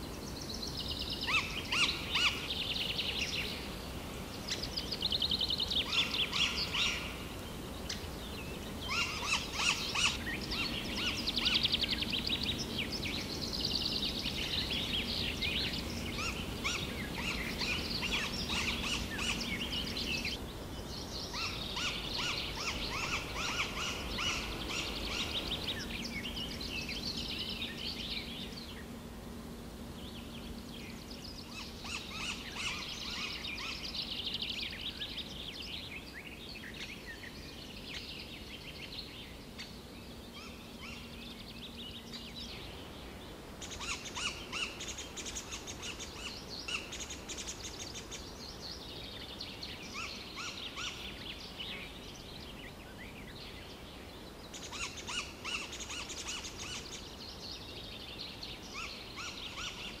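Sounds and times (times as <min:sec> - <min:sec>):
faint low hum: 0:00.0 - 1:00.0.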